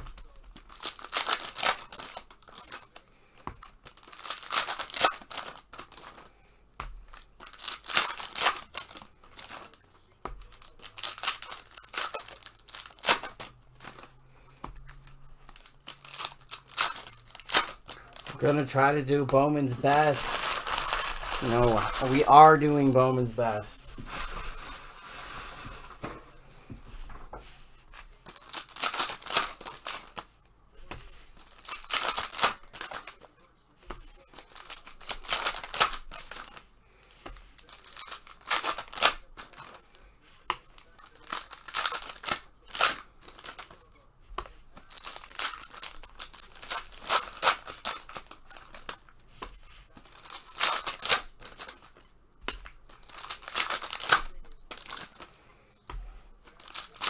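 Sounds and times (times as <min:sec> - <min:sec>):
wrapping torn and crinkled: 0:00.0 - 0:06.4, 0:07.0 - 0:14.2, 0:14.8 - 0:26.0, 0:27.9 - 0:30.2, 0:31.1 - 0:33.4, 0:34.1 - 0:36.6, 0:37.5 - 0:43.9, 0:44.5 - 0:55.3, 0:56.4 - 0:57.0.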